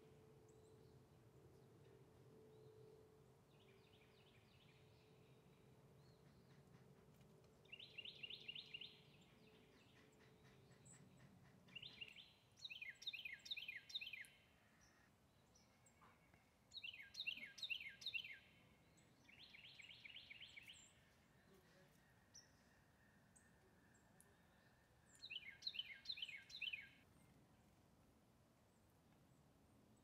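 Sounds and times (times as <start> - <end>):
songbirds calling faintly: 0.0 - 30.0.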